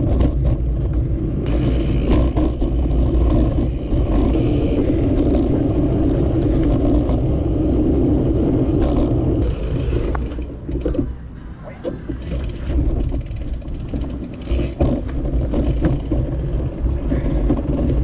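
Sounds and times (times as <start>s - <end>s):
wind and road noise cycling: 0.0s - 18.0s.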